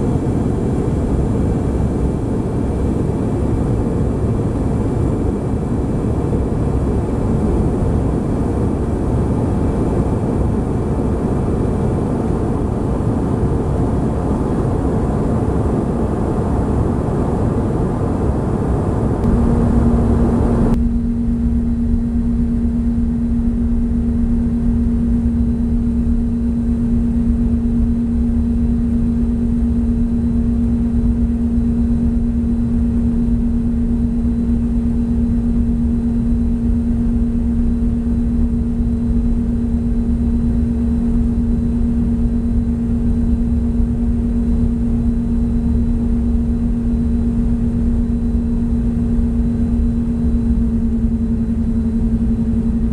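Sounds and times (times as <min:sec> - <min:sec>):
jet engine and airflow noise in cabin: 0:00.0 - 0:52.9
steady low hum: 0:00.0 - 0:52.9.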